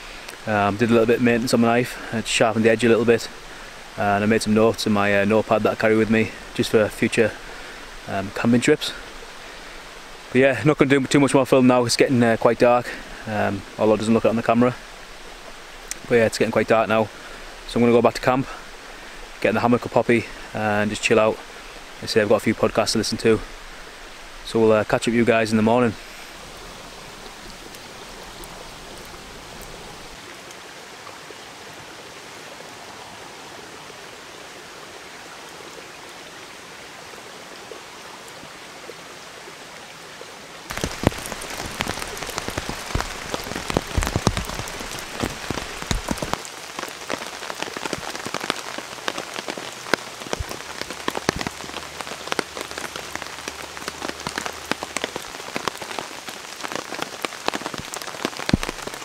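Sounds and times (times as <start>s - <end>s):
rain hitting tarp: 0.0s - 30.8s, 40.7s - 59.0s
steady hiss: 0.0s - 59.0s.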